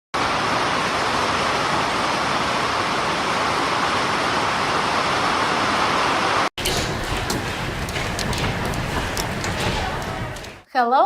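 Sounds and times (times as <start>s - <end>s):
rushing storm water: 0.2s - 10.6s.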